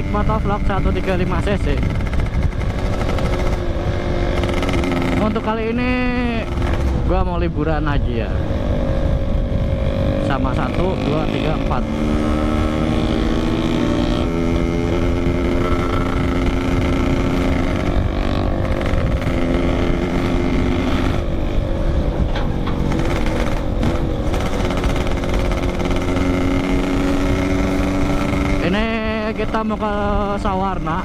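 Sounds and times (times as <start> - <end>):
two-stroke motorcycle engine running: 0.0 - 31.0
wind noise: 0.0 - 31.0.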